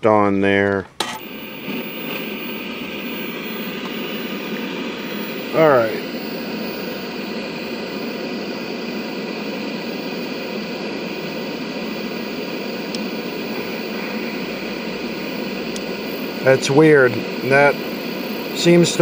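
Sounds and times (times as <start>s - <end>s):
tv static hiss: 1.0s - 19.0s.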